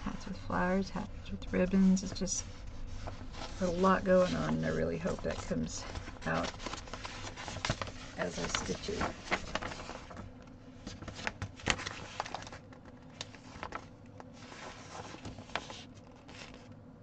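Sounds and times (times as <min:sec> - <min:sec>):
paper rustling and crinkling: 0:01.7 - 0:16.8.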